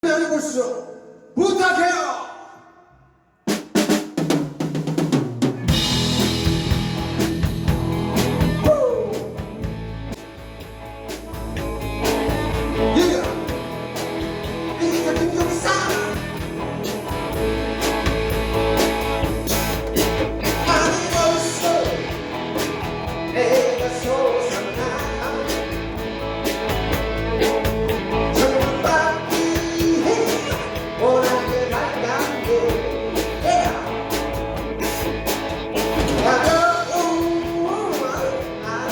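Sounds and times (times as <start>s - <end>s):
drum kit and bass beat: 3.5s - 38.9s
electric guitars: 5.4s - 38.9s.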